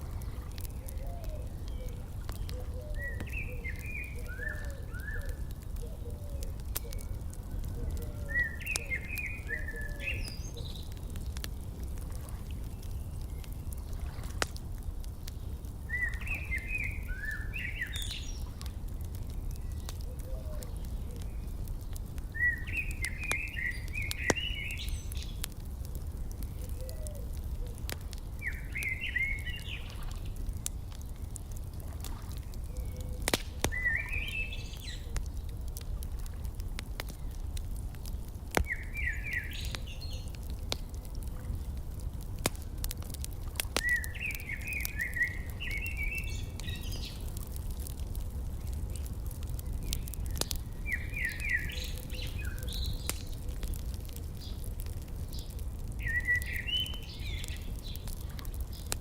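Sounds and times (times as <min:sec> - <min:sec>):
songbird singing: 0:00.0 - 0:25.5, 0:26.3 - 0:35.9, 0:37.0 - 0:41.7, 0:43.7 - 0:47.4, 0:48.4 - 0:59.0
wood fire crackling: 0:00.0 - 0:59.0.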